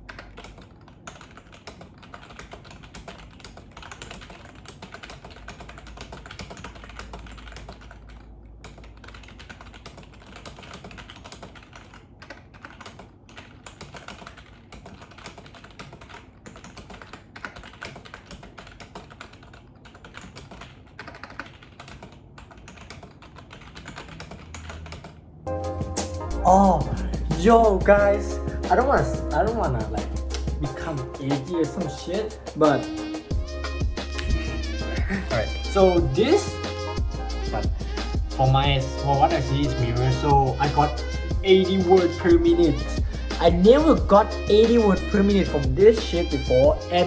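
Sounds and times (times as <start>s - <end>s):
fast keyboard typing: 0.0s - 47.0s.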